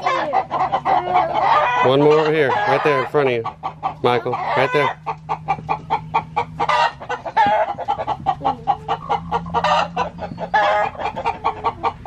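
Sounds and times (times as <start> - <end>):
chicken squawks: 0.0 - 12.0
chickens clucking: 0.0 - 12.0.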